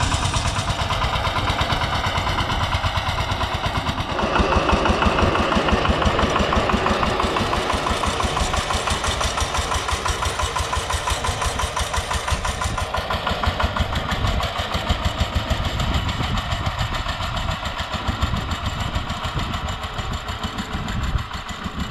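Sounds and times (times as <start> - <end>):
tiller diesel engine thumping: 0.0 - 21.9.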